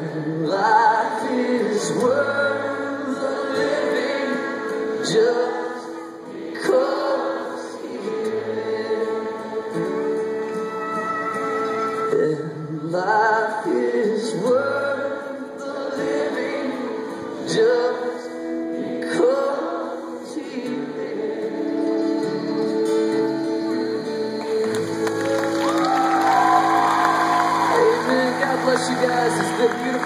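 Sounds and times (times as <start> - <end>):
voices singing: 0.0 - 10.5, 12.1 - 30.0
acoustic band playing: 0.0 - 30.0.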